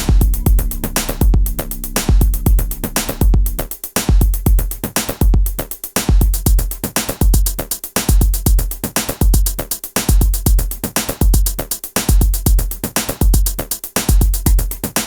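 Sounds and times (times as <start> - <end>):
electronic music with drum beat: 0.0 - 15.0.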